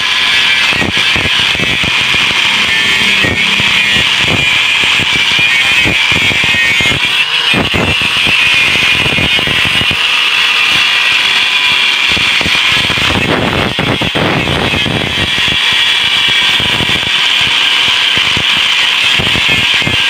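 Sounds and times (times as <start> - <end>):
angle grinder cutting metal: 0.0 - 20.0.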